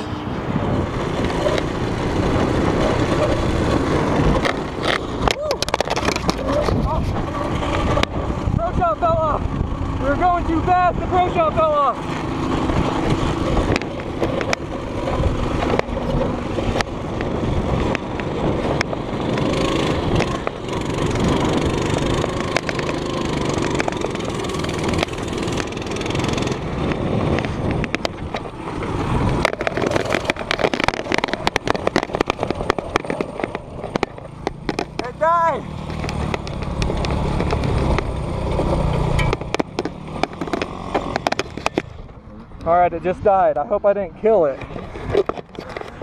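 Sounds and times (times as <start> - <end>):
mini bike engine under throttle: 0.0 - 42.2.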